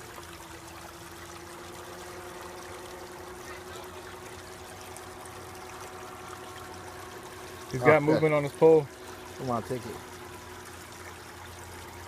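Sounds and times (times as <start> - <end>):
creek water trickling: 0.0 - 12.0.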